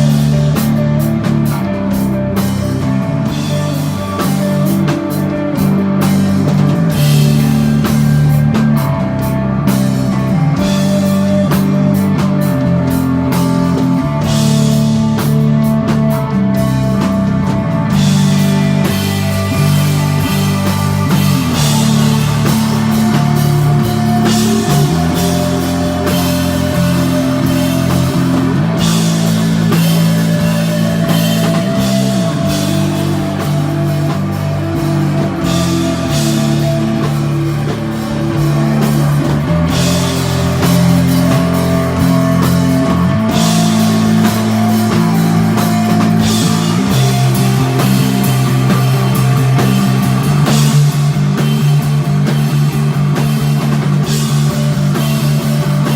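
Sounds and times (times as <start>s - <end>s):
drum kit with cymbals: 0.0s - 55.9s
electric guitar: 0.0s - 55.9s
slow bass line: 0.0s - 55.9s.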